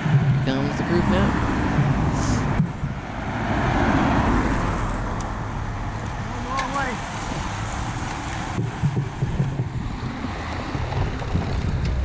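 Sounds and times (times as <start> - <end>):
wind noise on microphone: 0.0 - 6.2, 6.9 - 12.0
cyclists riding past: 0.0 - 12.0.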